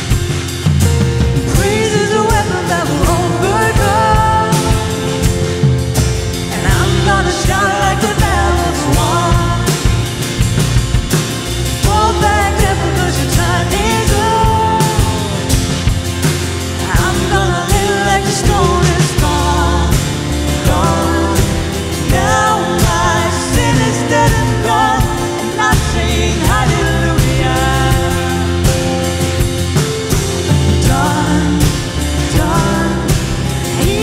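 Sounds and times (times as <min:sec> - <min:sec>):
acoustic guitar: 0:00.0 - 0:34.0
drums: 0:00.0 - 0:34.0
keyboard: 0:00.0 - 0:34.0
woman singing: 0:01.4 - 0:05.5, 0:06.4 - 0:10.5, 0:11.8 - 0:16.0, 0:16.7 - 0:29.1, 0:30.6 - 0:34.0
man singing: 0:01.4 - 0:05.6, 0:06.4 - 0:10.6, 0:11.7 - 0:34.0.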